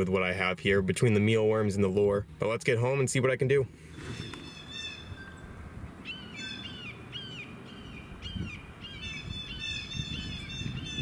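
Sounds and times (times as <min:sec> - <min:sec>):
birds calling: 0:01.0 - 0:11.0.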